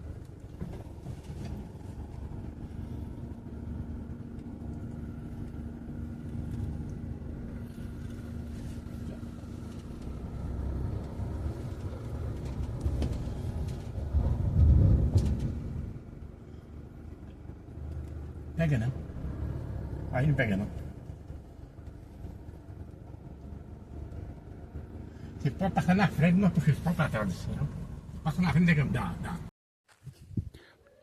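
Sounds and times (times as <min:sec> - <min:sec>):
vehicle engine running: 0:00.0 - 0:29.5.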